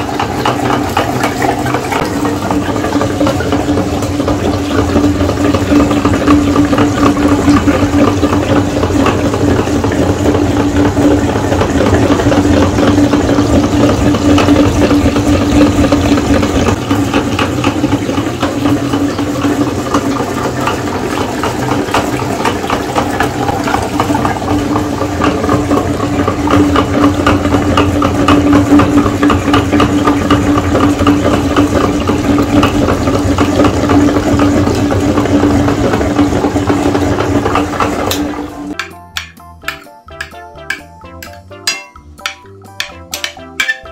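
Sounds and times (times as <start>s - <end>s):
meat grinder motor hum: 0.0s - 43.9s.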